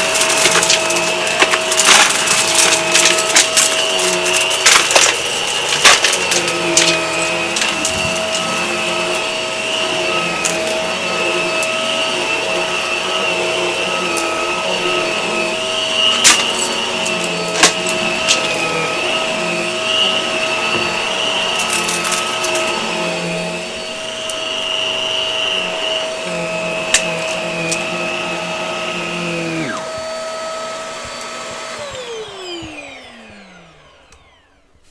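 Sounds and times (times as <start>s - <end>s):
debris clicks in vacuum: 0.0s - 30.1s
vacuum motor winding down: 0.0s - 34.8s
vacuum cleaner running: 0.0s - 34.9s.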